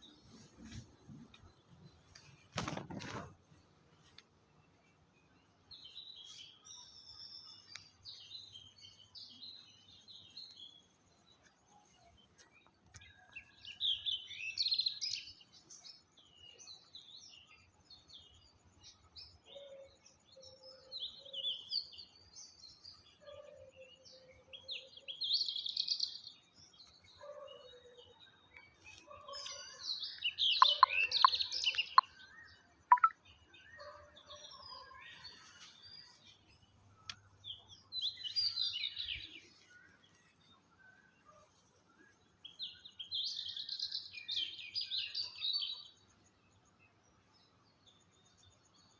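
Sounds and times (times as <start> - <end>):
birds chirping and twittering: 0.0 - 48.9.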